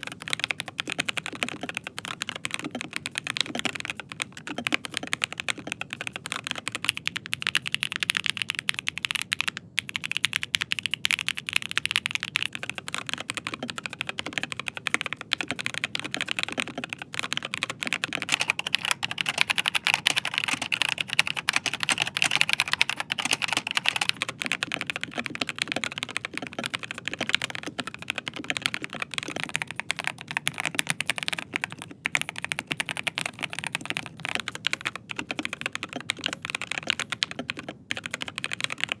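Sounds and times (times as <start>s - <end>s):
fast typing on mechanical keyboard: 0.0s - 39.0s.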